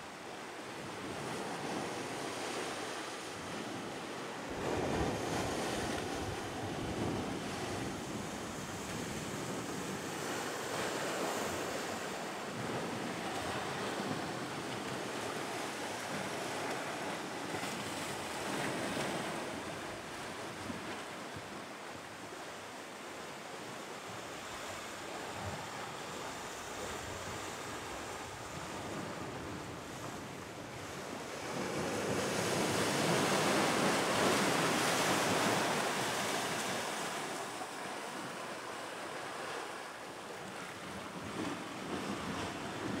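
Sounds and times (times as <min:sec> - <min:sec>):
sea surf over rocks and sand: 0:00.0 - 0:43.0.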